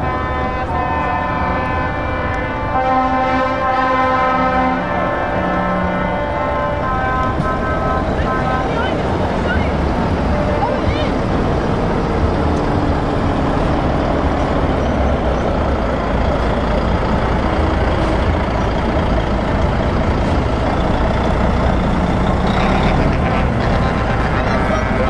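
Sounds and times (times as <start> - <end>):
truck diesel engines running: 0.0 - 25.0.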